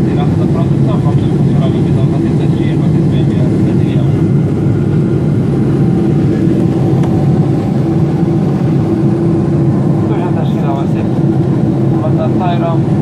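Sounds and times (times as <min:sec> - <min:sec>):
jet engines droning in cabin: 0:00.0 - 0:13.0.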